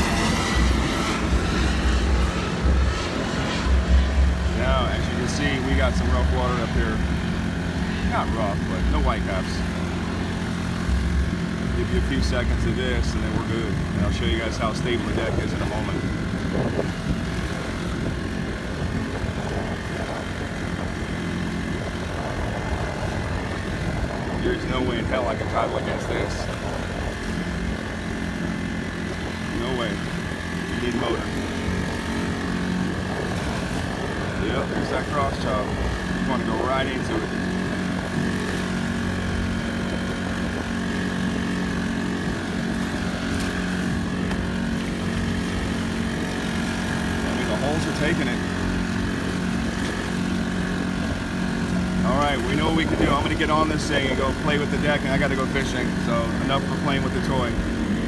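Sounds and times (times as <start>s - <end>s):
small boat engine running: 0.0s - 58.0s.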